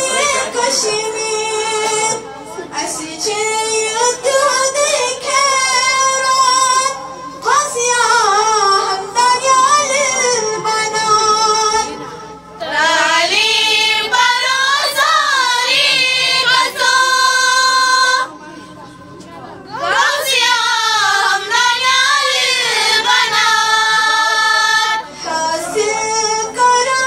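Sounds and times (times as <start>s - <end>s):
woman singing unaccompanied: 0.0s - 12.0s, 12.6s - 18.3s, 19.7s - 24.1s, 24.8s - 27.0s.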